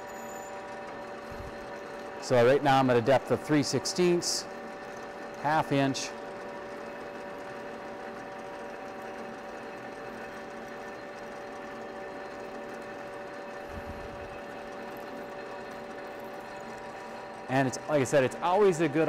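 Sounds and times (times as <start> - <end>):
drill boring into metal: 0.0 - 19.0
metal lathe humming and whining: 0.0 - 19.0.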